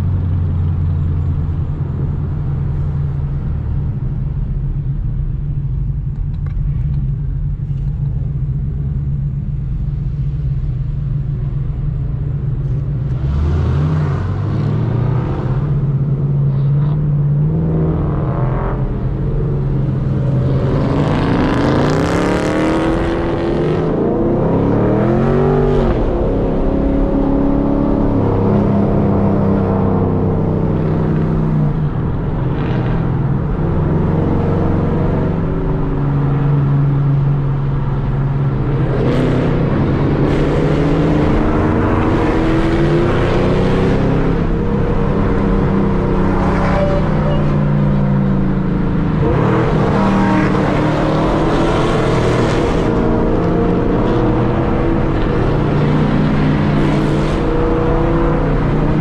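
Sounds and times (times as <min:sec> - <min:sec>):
car engine accelerating hard: 0:05.6 - 0:59.0.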